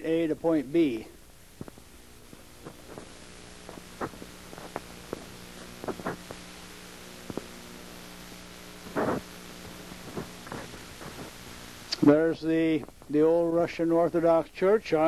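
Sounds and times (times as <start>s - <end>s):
background hiss: 0.0s - 15.0s
steady low hum: 0.0s - 15.0s.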